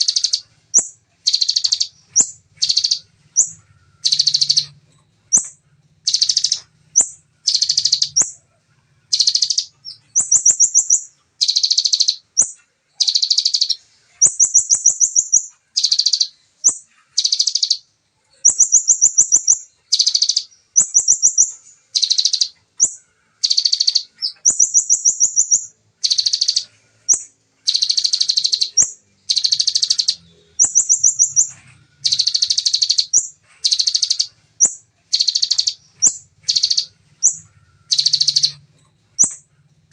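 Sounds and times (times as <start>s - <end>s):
high bird trills: 0.0s - 8.5s, 9.1s - 39.5s
bird singing rapid chatter: 0.0s - 39.9s.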